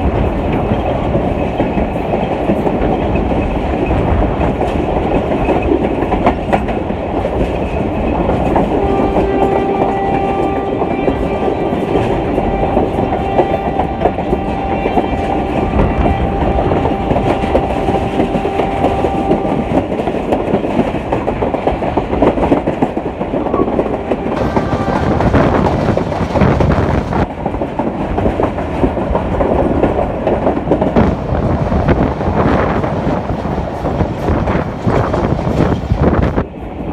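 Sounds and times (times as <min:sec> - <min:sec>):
clatter over rail joints: 0:00.0 - 0:36.6
train wheels rumbling on rail: 0:00.0 - 0:36.9.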